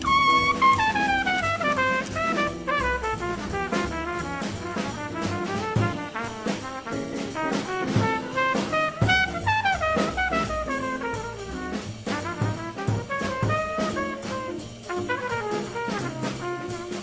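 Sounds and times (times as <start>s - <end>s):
double bass: 0.0s - 17.0s
drum kit: 0.0s - 17.0s
fast brass melody: 0.0s - 17.0s.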